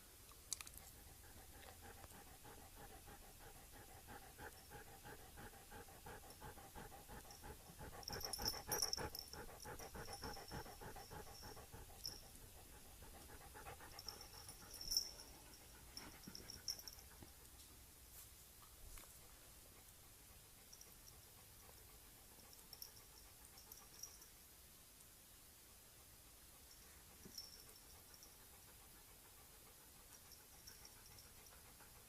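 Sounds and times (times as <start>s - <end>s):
dog panting: 0.6s - 17.8s, 19.0s - 24.3s, 25.8s - 32.0s.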